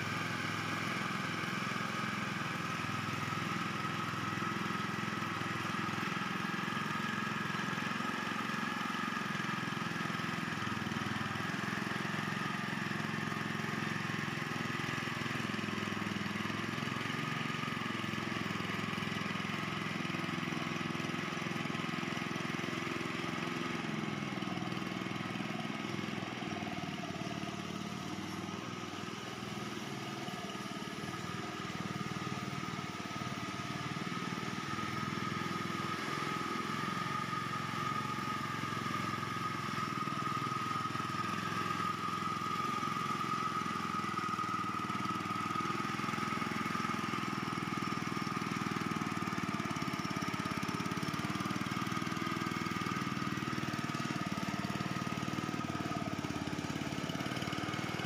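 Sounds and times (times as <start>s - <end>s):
small engine running under load: 0.0s - 58.0s.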